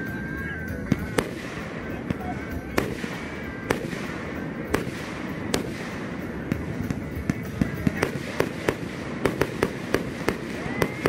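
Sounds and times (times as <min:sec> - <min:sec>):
fireworks bangs: 0:00.9 - 0:11.0
fireworks hiss: 0:01.0 - 0:11.0.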